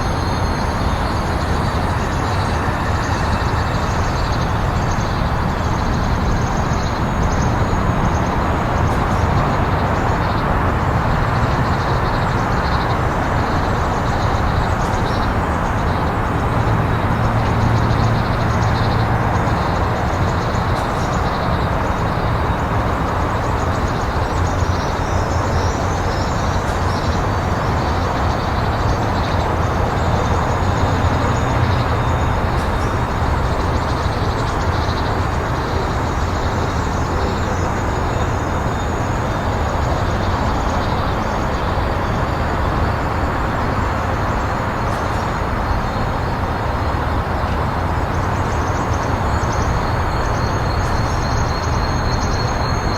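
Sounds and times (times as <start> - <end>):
faint high wheel squeals: 0.0 - 52.9
freight train rumbling past: 0.0 - 52.9.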